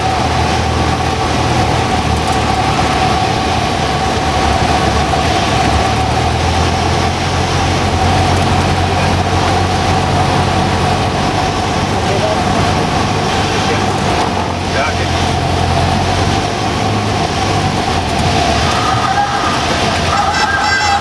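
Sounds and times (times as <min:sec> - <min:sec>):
airplane engine droning in cabin: 0:00.0 - 0:21.0.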